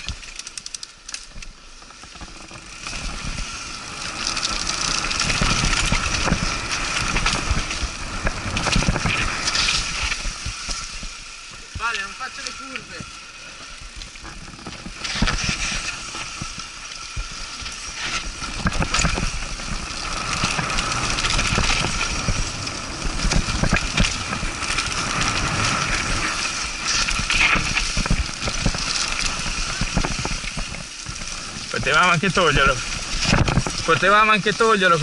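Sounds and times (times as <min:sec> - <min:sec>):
bike chain and frame rattling: 0:00.0 - 0:35.0
bike tyres rolling over dirt: 0:00.0 - 0:35.0.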